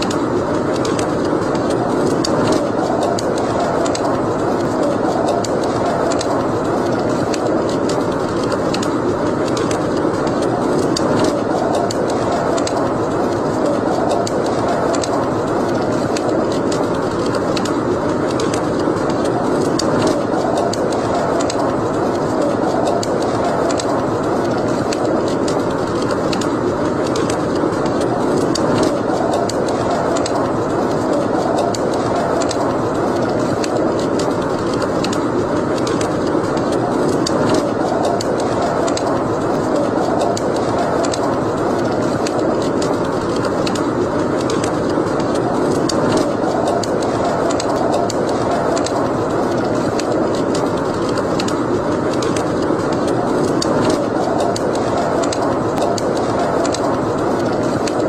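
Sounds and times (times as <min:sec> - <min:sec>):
rush of flame: 0:00.0 - 0:58.0
wood fire crackling and popping: 0:00.0 - 0:58.0.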